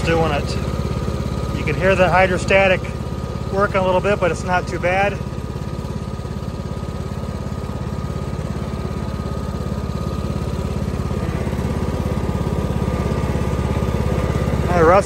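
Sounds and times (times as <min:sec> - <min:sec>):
lawn tractor engine running under load: 0:00.0 - 0:15.0.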